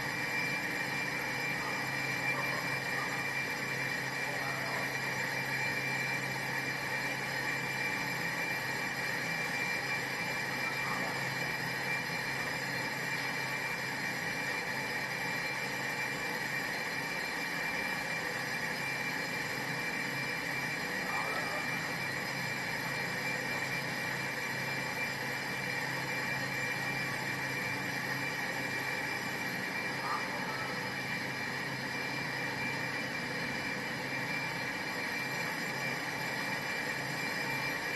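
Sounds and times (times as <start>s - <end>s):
lathe high-pitched whine: 0.0s - 37.9s.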